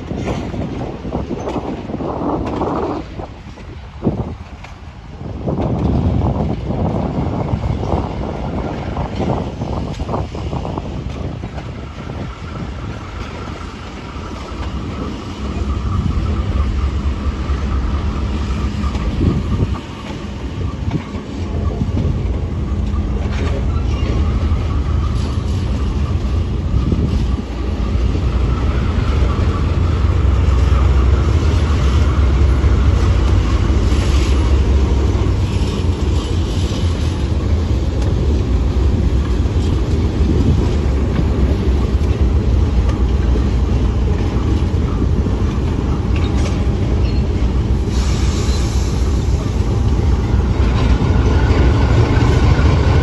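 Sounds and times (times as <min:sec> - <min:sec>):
train rumbling past: 0:00.0 - 0:53.0
wheels clattering on track: 0:00.0 - 0:53.0.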